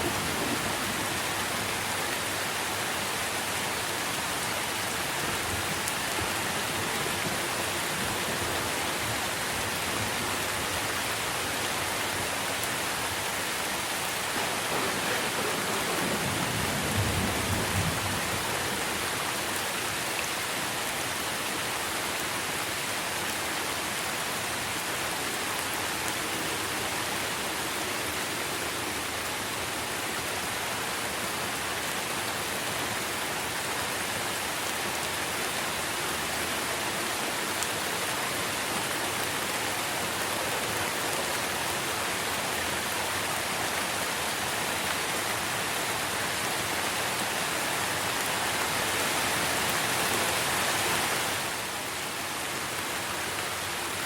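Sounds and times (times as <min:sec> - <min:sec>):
rain on trees and foliage: 0:00.0 - 0:54.0.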